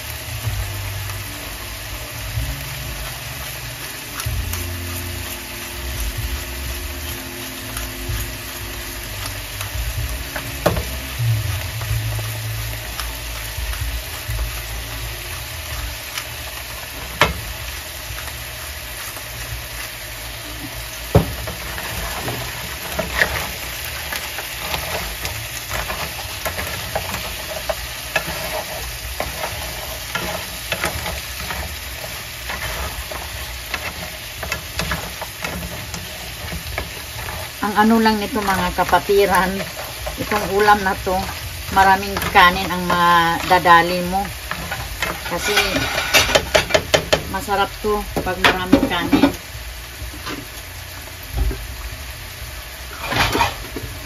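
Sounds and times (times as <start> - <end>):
crab frying with sizzle: 0.0 - 54.0.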